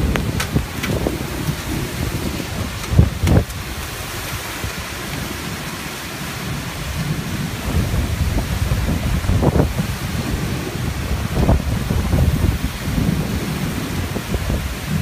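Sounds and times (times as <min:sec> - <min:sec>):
heavy rain: 0:00.0 - 0:15.0
wind gusts buffeting microphone: 0:00.0 - 0:15.0.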